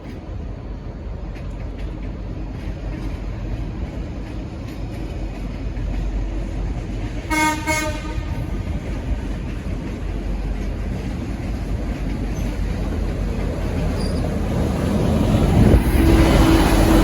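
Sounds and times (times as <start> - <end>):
diesel locomotive rumbling: 0.0 - 17.0.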